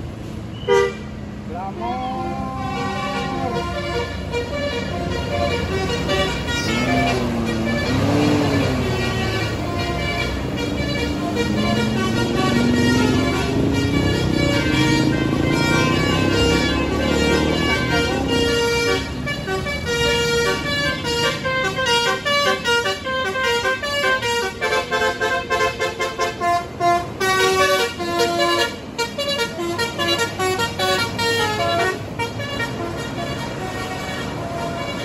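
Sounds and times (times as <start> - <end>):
bus running noise: 0.0 - 35.0
melodic bus air horn: 0.5 - 1.2, 2.3 - 35.0.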